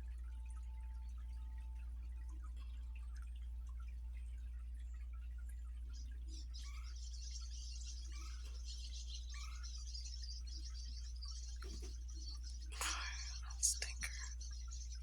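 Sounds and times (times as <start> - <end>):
low hum: 0.0 - 15.0
songbirds chirping: 0.0 - 15.0.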